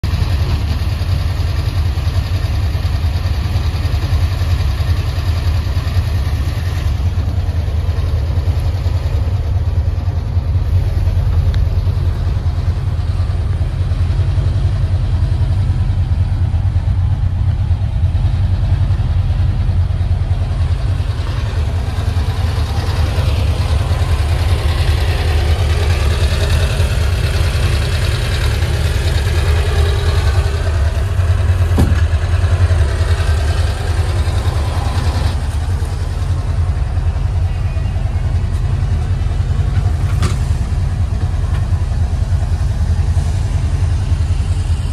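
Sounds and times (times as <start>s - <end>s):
steady low rumble: 0.0s - 44.9s.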